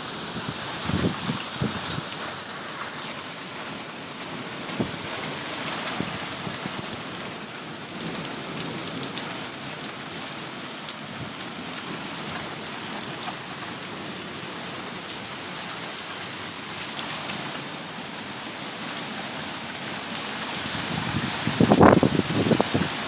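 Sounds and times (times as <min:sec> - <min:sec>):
heavy rain falling: 0:00.0 - 0:23.0
sharp rain drop ticks: 0:00.2 - 0:19.1.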